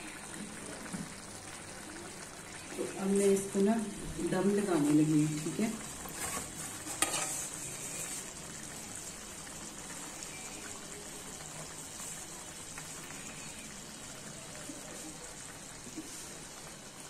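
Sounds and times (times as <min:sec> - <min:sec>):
faint crackles: 0:00.0 - 0:17.0
rice sizzling in a pot: 0:00.0 - 0:17.0.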